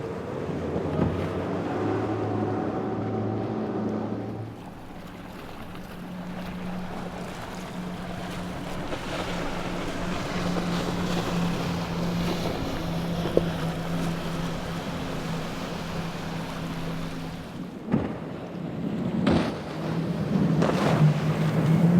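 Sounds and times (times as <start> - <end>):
motorboat engine drone: 0.0 - 21.9
waves washing: 0.0 - 21.9.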